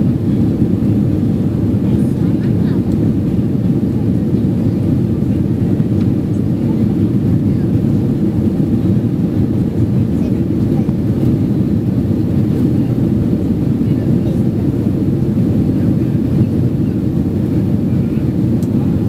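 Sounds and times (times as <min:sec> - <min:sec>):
airplane cabin engine roar: 0:00.0 - 0:19.0.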